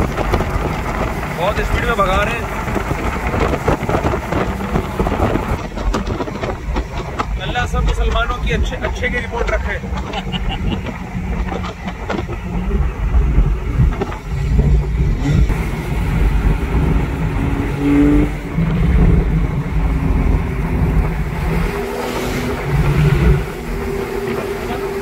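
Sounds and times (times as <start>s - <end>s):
car engine rumble: 0.0s - 25.0s
wind and road noise: 0.0s - 25.0s.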